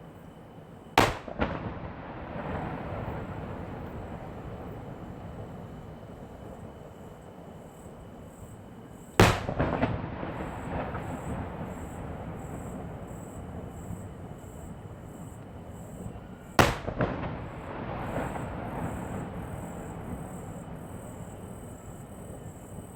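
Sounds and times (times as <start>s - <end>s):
firework shells booming: 1.0s - 7.0s, 9.1s - 22.9s.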